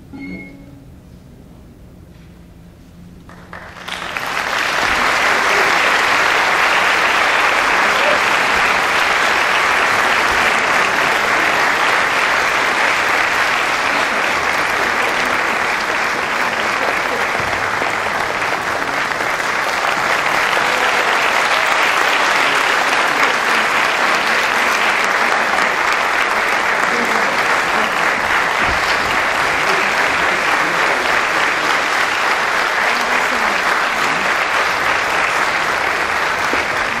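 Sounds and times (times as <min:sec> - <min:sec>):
audience applause: 0:03.3 - 0:37.0.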